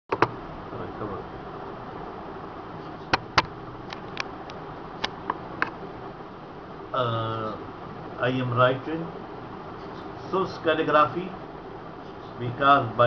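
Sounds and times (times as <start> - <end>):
room hum: 0.1 - 13.0.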